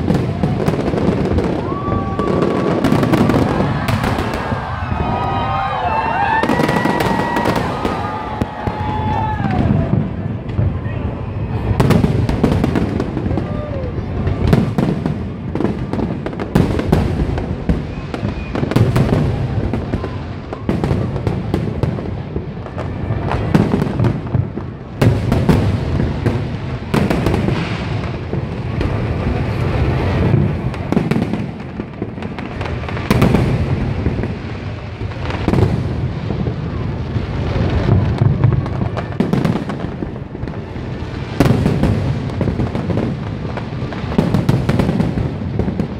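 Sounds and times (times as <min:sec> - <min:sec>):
low rumble of explosions: 0:00.0 - 0:45.9.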